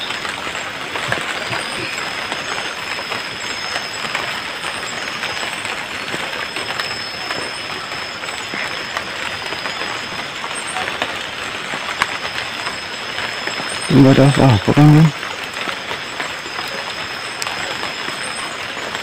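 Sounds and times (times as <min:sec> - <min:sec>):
light rain on foliage: 0:00.0 - 0:19.0.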